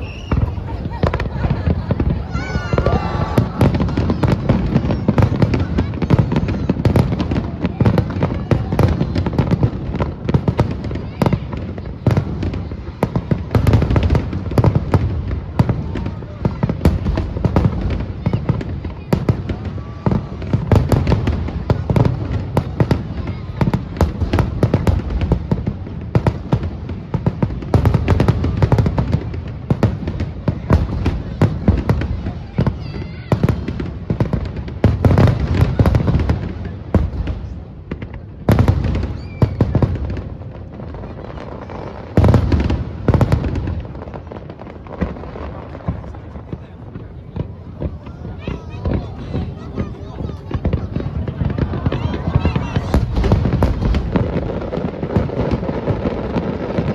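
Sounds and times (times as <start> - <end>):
fireworks bursting: 0.0 - 56.9
fireworks crackle: 0.0 - 56.9.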